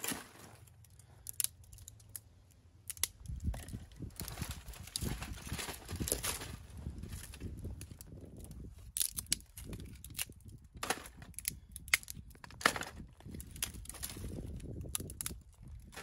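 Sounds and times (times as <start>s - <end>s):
dry twigs crackling: 0.0s - 16.0s.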